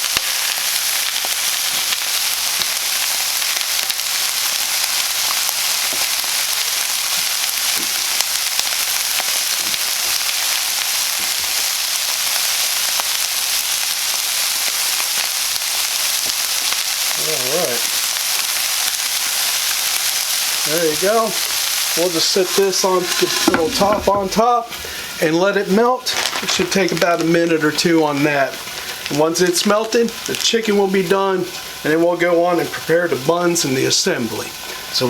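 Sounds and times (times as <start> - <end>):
chicken sizzling in a pan: 0.0 - 35.0.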